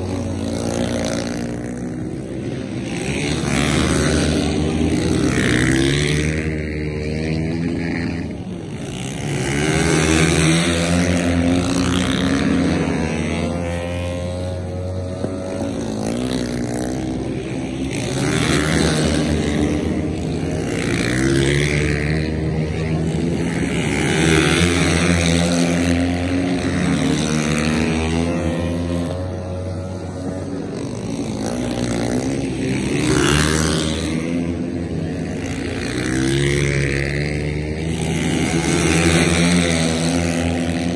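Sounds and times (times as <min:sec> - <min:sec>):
motorcycles passing by: 0:00.0 - 0:40.9
racing motorcycles revving: 0:00.0 - 0:40.9.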